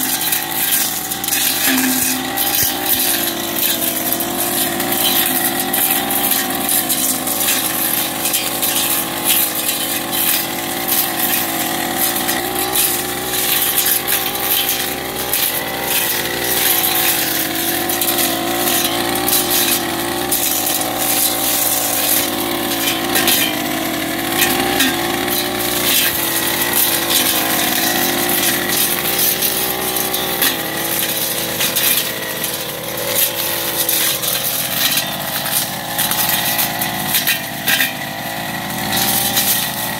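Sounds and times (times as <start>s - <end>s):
cutting head tearing through grass: 0.0s - 37.8s, 38.9s - 39.8s
brush cutter engine running: 0.0s - 39.9s.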